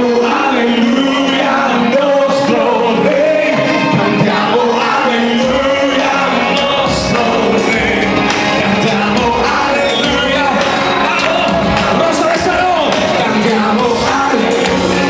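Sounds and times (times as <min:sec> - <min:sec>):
band playing gospel music: 0:00.0 - 0:15.0
congregation singing along: 0:00.0 - 0:15.0
man singing into microphone: 0:00.0 - 0:15.0.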